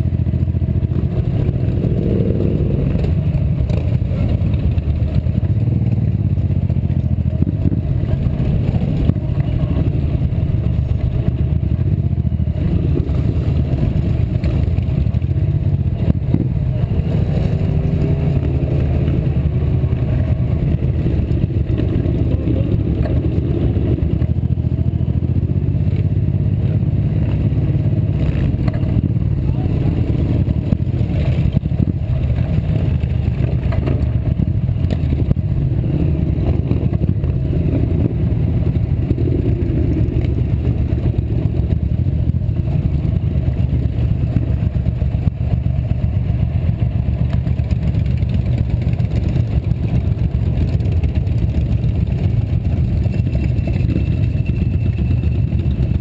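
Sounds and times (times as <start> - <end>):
motorcycle engines running: 0.0 - 56.0.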